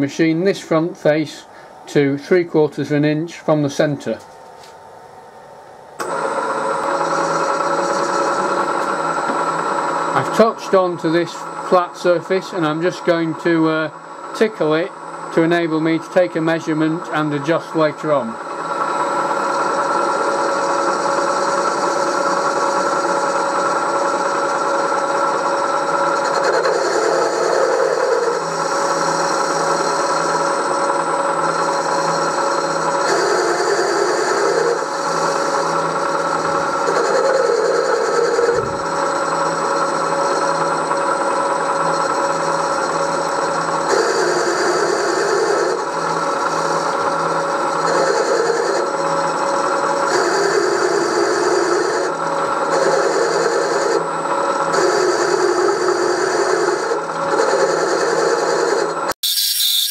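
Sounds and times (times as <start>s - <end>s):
milling machine spindle whine: 0.0s - 59.9s
end mill cutting metal: 6.0s - 59.9s.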